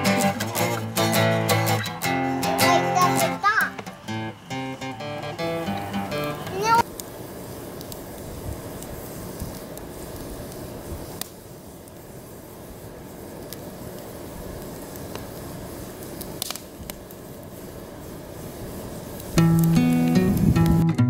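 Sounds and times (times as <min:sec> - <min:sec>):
campfire flame rushing: 0:00.0 - 0:21.0
logs crackling and popping: 0:00.0 - 0:21.0.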